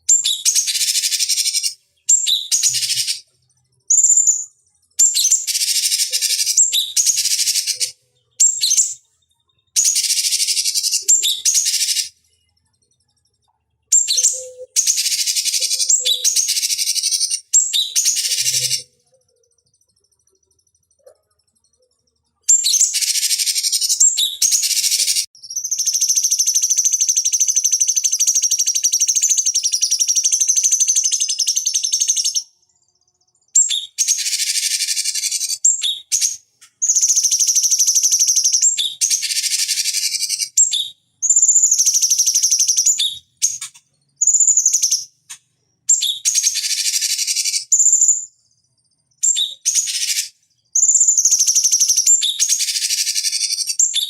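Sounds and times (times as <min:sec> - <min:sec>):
bird chattering song: 0:00.0 - 0:32.5, 0:33.1 - 0:54.0.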